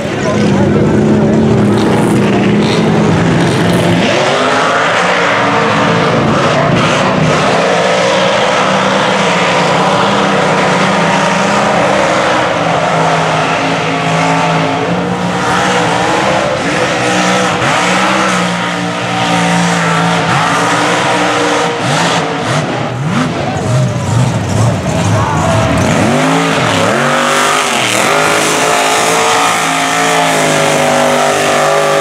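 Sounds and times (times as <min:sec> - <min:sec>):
truck engine revving: 0:00.0 - 0:32.0
tyres churning through mud: 0:00.0 - 0:32.0.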